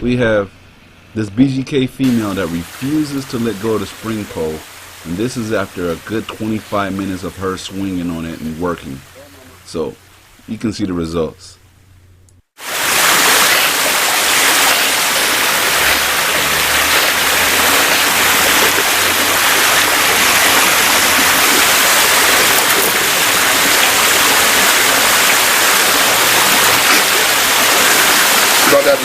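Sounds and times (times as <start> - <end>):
loud steady rushing hiss: 0.1 - 10.6, 12.6 - 29.0.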